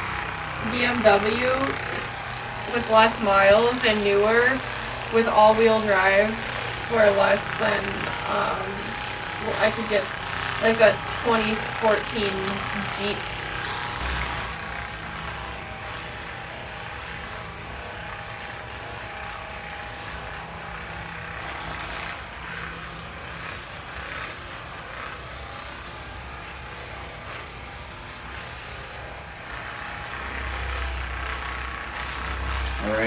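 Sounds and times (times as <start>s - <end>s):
massage gun motor buzz: 0.0s - 33.0s.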